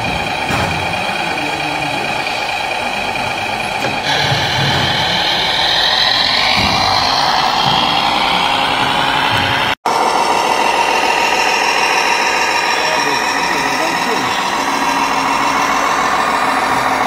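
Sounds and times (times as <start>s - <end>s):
high motor whine: 0.0s - 17.0s
model tractor engine running: 0.0s - 17.0s.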